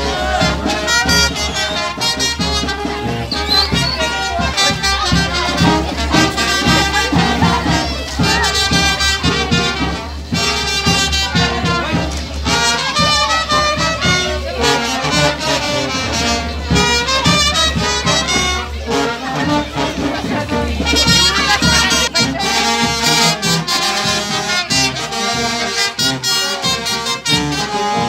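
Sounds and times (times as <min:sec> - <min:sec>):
brass band music: 0:00.0 - 0:28.0.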